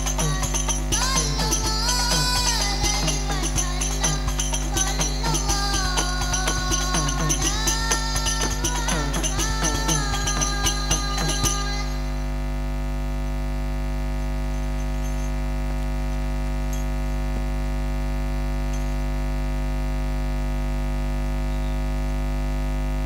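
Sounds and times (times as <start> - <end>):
electrical buzz: 0.0 - 23.0
electrical mains hum: 0.0 - 23.0.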